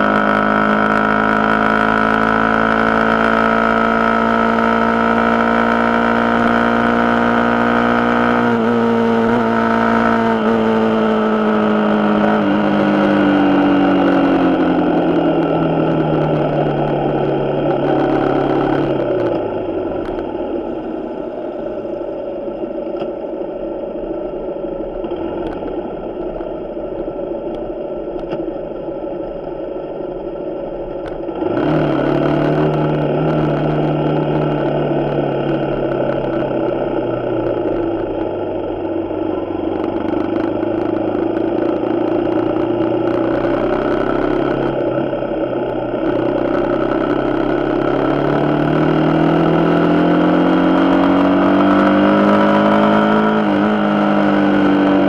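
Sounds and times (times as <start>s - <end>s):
motorcycle engine accelerating: 0.0s - 23.5s, 29.6s - 55.0s.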